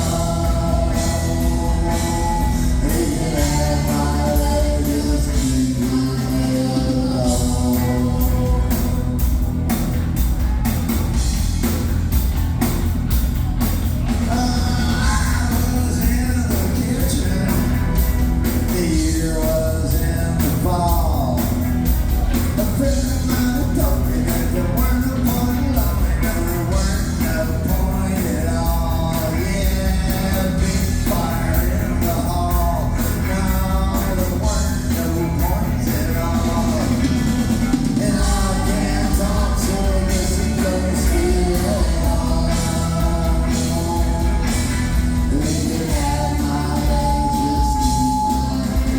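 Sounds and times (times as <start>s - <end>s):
man singing: 0.0s - 10.2s, 14.0s - 48.9s
rock band playing live: 0.0s - 48.9s.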